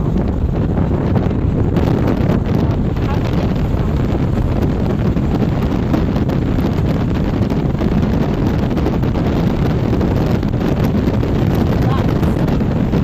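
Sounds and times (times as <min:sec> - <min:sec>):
air blowing through broken window: 0:00.0 - 0:13.0
wind and road noise in van: 0:00.0 - 0:13.0.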